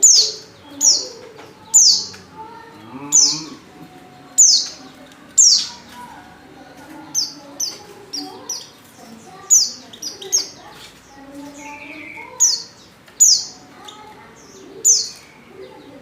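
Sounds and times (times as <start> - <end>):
bird high chirps: 0.0 - 2.3, 4.3 - 6.0, 7.1 - 16.0.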